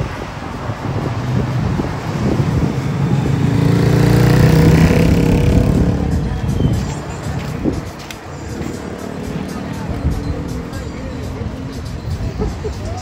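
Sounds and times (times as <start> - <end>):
motor vehicle passing: 0.0 - 12.7.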